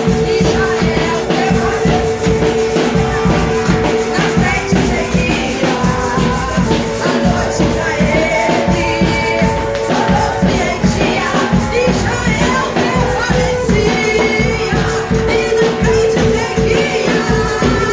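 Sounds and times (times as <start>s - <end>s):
gospel music with singing: 0.0s - 17.9s.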